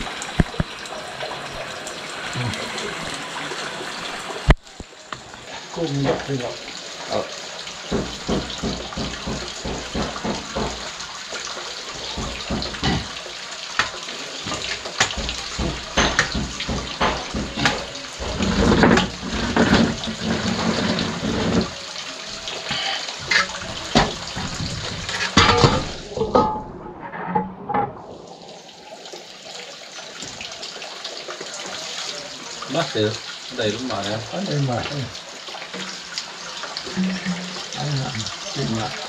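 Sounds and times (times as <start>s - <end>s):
water splashing and running: 0.0s - 27.4s, 28.0s - 39.0s.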